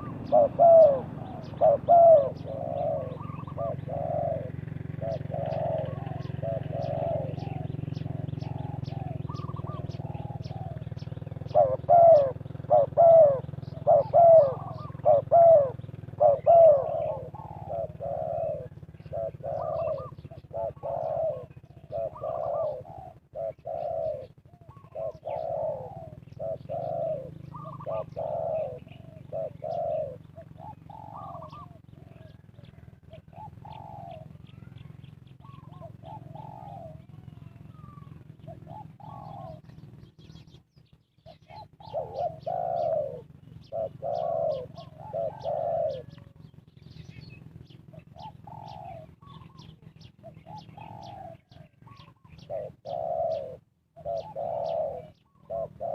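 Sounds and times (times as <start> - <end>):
doves cooing: 0.0 - 55.9.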